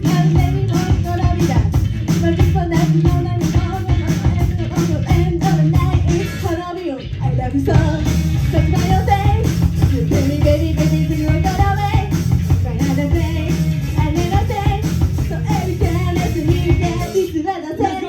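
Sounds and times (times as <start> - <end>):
drum kit beat: 0.0 - 6.6, 7.8 - 17.4
bass and electric guitar: 0.0 - 17.5.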